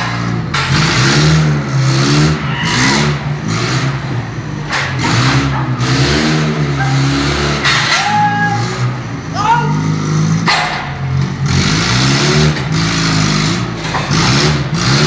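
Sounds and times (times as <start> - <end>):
forklift engine revving: 0.0 - 15.0.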